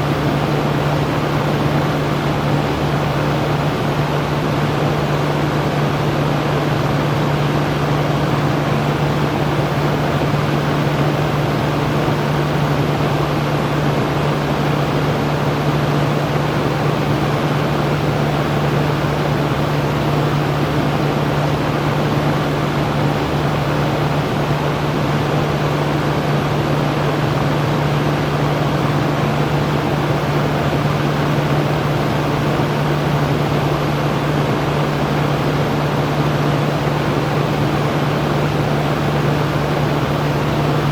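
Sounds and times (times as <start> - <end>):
electric fan air rush: 0.0 - 40.9.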